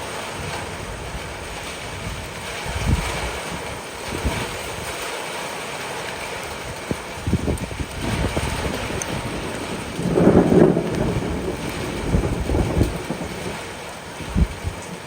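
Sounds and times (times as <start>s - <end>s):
light rain hissing: 0.0s - 15.0s
wind: 0.0s - 15.0s.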